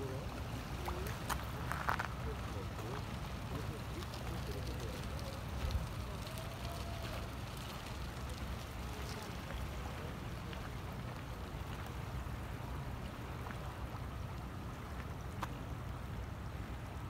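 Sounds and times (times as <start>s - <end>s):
rushing river water: 0.0s - 17.0s
wind rumble on microphone: 0.0s - 17.0s.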